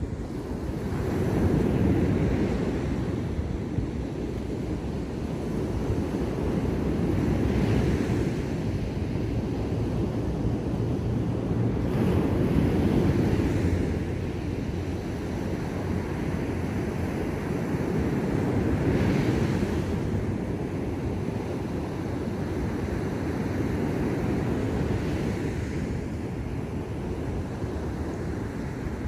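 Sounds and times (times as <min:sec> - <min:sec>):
ocean waves breaking on beach: 0:00.0 - 0:29.0.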